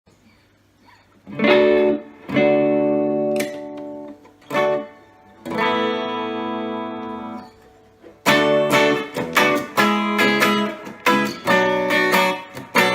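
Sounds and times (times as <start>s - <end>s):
faint amp hum: 0.1s - 12.9s
electric guitar strummed chords: 1.2s - 12.9s.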